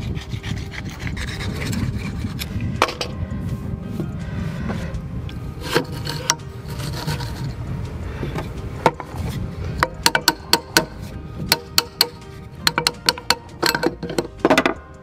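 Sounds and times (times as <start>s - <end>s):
bearing scraping on metal shaft: 0.0s - 14.8s.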